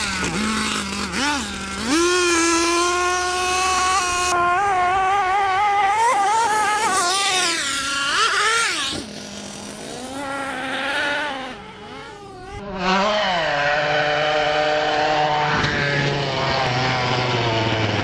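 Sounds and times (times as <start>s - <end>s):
small toy truck engine revving: 0.0s - 18.0s.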